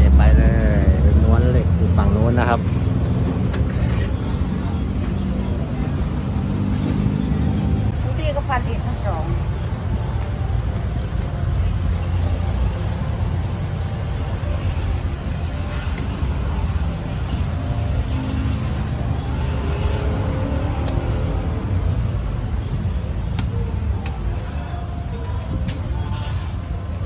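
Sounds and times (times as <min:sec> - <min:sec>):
faint voices: 0:00.0 - 0:27.0
steady low rumble: 0:00.0 - 0:27.0.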